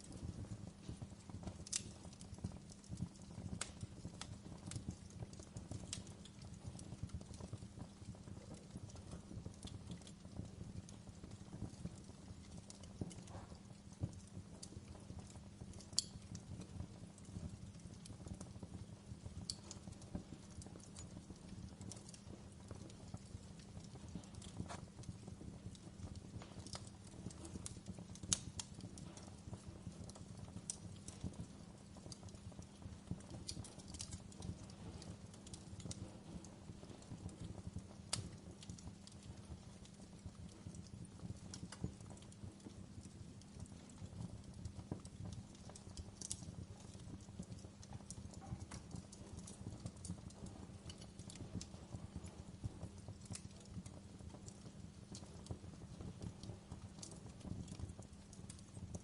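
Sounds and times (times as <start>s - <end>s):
fire crackles and pops: 0.0s - 59.0s
low rumble of flames: 0.0s - 59.0s.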